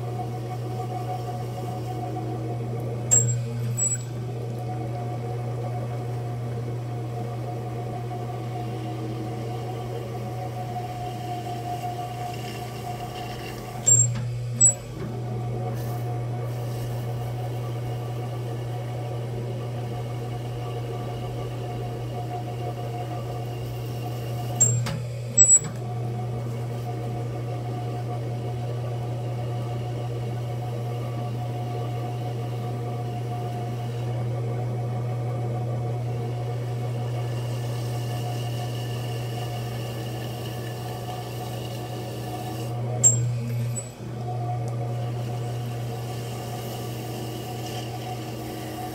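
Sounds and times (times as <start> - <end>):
potter's wheel motor hum: 0.0 - 48.9.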